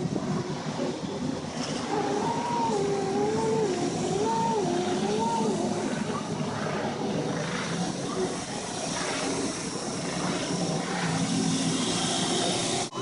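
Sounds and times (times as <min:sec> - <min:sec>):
car engines droning in traffic: 0:00.0 - 0:13.0.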